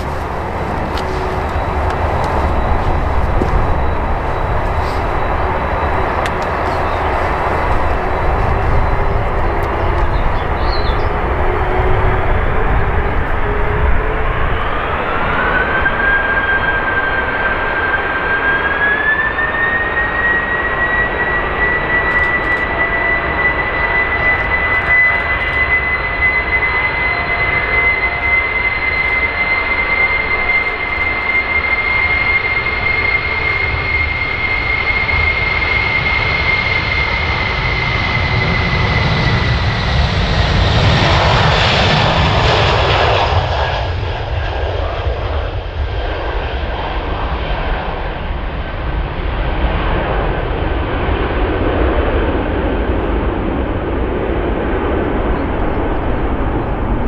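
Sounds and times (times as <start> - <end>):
jet engines at takeoff: 0.0 - 57.0.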